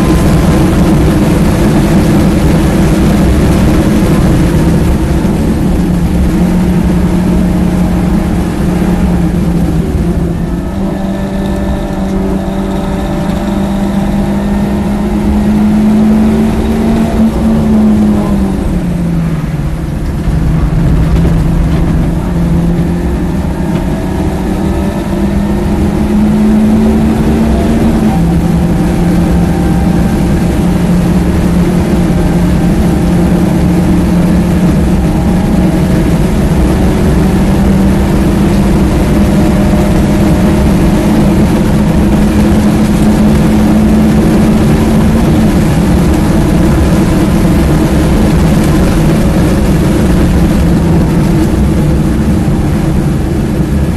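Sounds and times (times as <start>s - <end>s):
car engine revving: 0.0s - 53.9s
wind noise: 0.0s - 53.9s.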